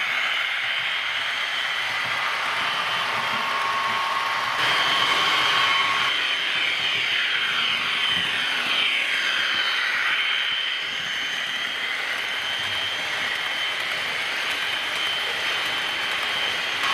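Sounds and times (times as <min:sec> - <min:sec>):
model locomotive whine: 0:00.0 - 0:16.9.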